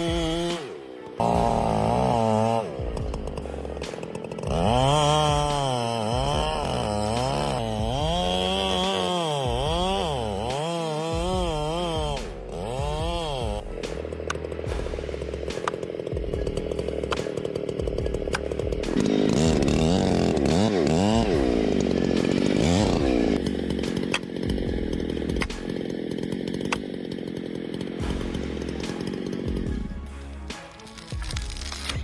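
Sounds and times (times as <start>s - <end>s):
chainsaw engine running: 0.0s - 32.0s.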